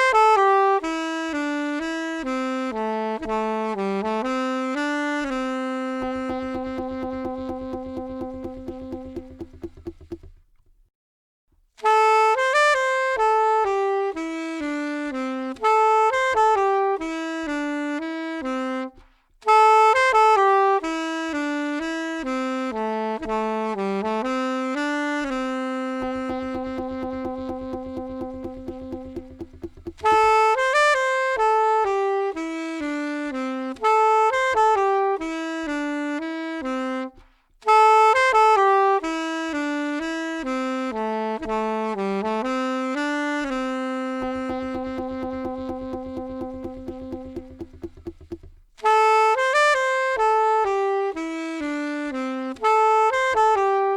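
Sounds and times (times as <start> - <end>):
saxophone playing slow melody: 0.0 - 10.4, 11.8 - 53.9.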